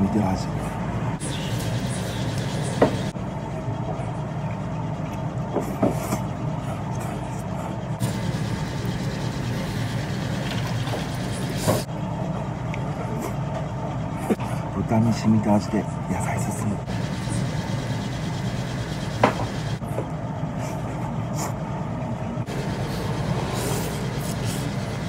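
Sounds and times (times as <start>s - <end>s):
low rumble and hum of room noise: 0.0s - 25.0s.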